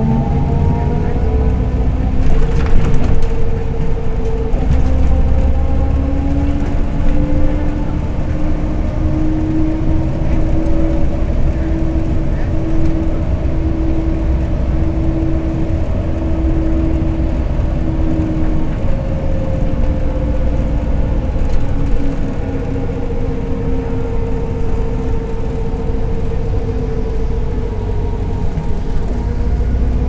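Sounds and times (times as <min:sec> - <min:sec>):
bus engine and road rumble: 0:00.0 - 0:30.0
whining tone: 0:00.0 - 0:30.0.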